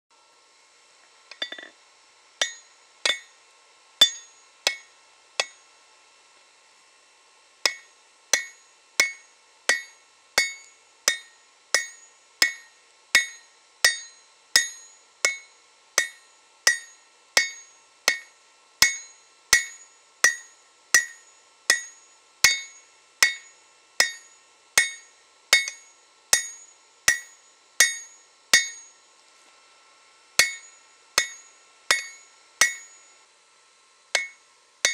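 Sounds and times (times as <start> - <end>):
hammer ringing on anvil: 1.3 - 1.8, 2.4 - 3.4, 4.0 - 5.7, 7.7 - 29.0, 30.4 - 33.2, 34.1 - 34.9.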